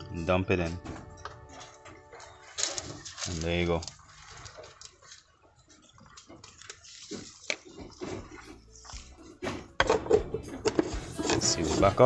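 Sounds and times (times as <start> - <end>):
rabbits crunching pellets: 0.8 - 12.0.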